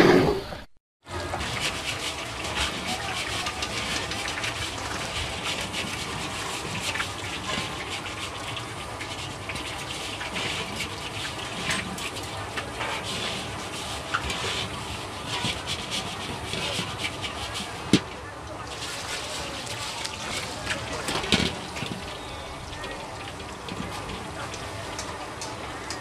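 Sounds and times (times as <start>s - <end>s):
water sloshing in wok: 1.0s - 26.0s
brush scrubbing metal wok: 1.1s - 25.8s.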